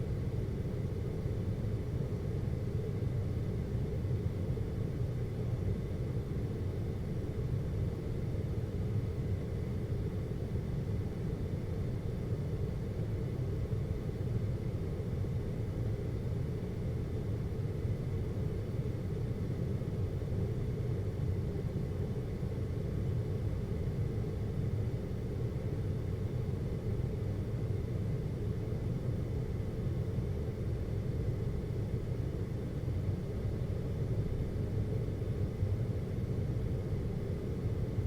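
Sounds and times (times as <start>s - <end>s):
air conditioner humming: 0.0s - 38.0s.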